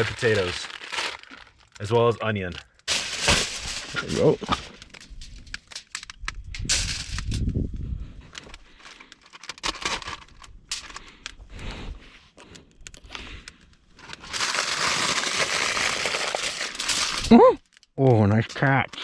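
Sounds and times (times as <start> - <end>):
food packaging crinkling: 0.0 - 7.4, 8.4 - 11.4, 12.4 - 18.0.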